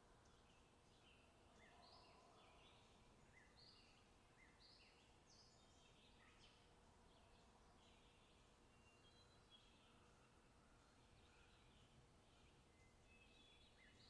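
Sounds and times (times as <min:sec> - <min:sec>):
faint low background noise: 0:00.0 - 0:14.0.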